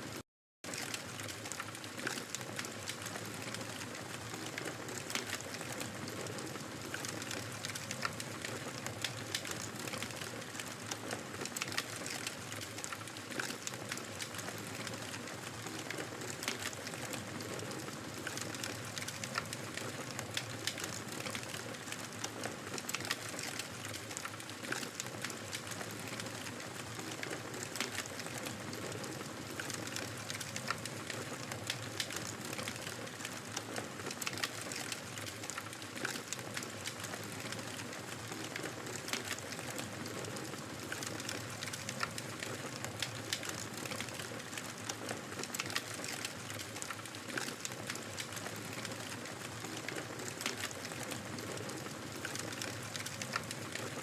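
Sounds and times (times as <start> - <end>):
wood fire crackling: 0.7 - 54.0.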